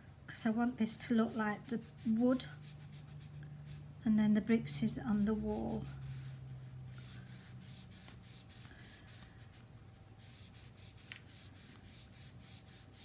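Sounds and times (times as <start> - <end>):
scratchy strokes on cardstock: 1.1 - 3.9, 4.9 - 13.0.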